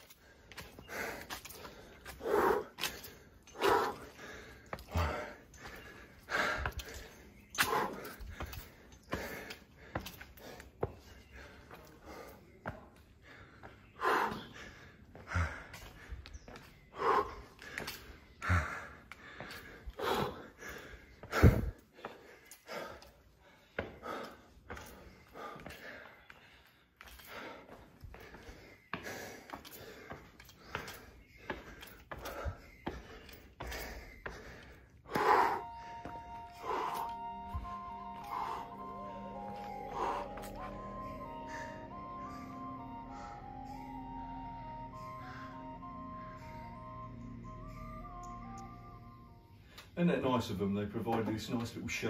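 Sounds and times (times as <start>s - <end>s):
footsteps on concrete steps: 0.0s - 46.7s, 49.7s - 52.0s
person breathing hard: 0.0s - 48.6s.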